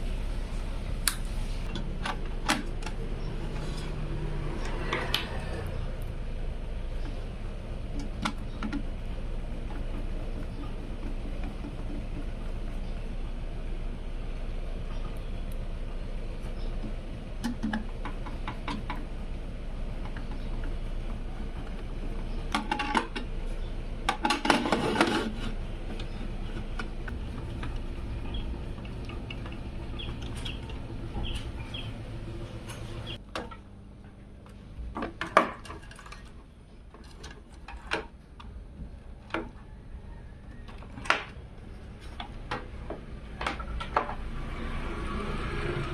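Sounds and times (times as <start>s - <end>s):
steady low hum: 0.0s - 44.4s.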